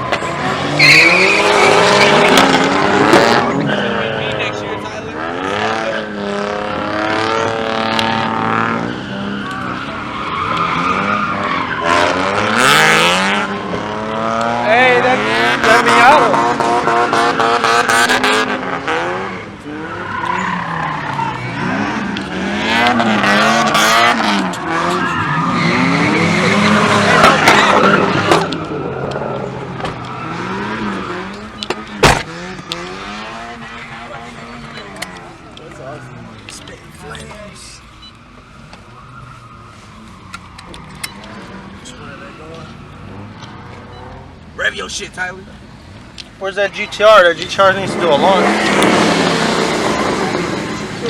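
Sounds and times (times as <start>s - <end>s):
car engine revving: 0.0s - 51.0s
tires squealing: 0.0s - 51.0s.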